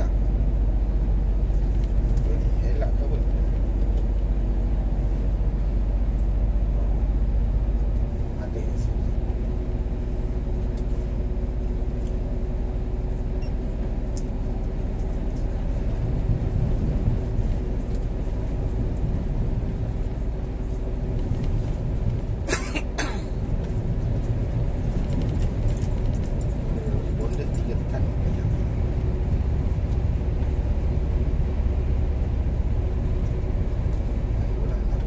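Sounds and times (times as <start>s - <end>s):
road rumble: 0.0s - 35.0s
truck diesel engine running: 0.0s - 35.0s.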